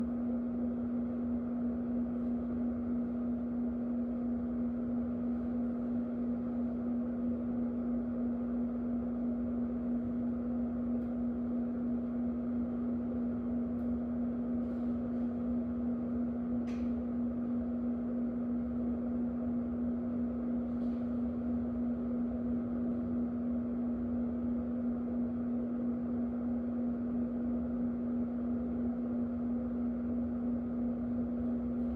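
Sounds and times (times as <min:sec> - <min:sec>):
electric fan running: 0:00.0 - 0:31.9.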